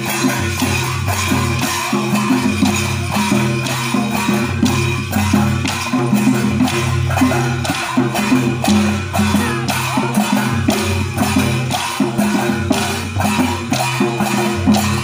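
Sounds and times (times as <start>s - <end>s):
hand-played barrel drums: 0.0s - 15.0s
jingling percussion: 0.0s - 15.0s.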